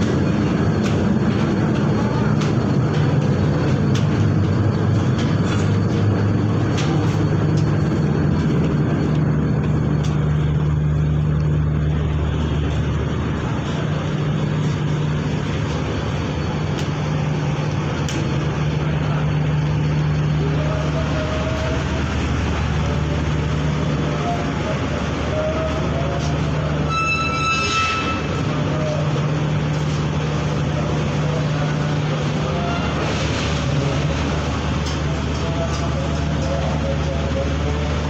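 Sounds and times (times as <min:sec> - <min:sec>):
ship diesel engines droning: 0:00.0 - 0:38.0.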